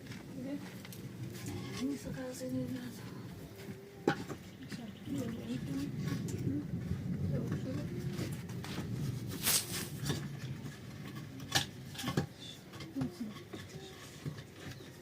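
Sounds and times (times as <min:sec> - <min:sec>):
low steady rumble: 0:00.0 - 0:13.9
knocks and clatters: 0:00.0 - 0:15.0.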